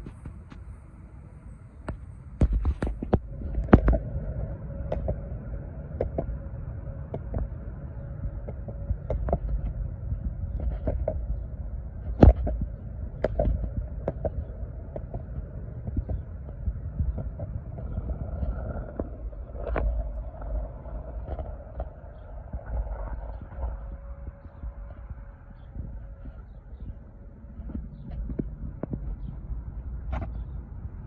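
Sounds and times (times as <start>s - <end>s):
faint steady tone: 0.0s - 31.0s.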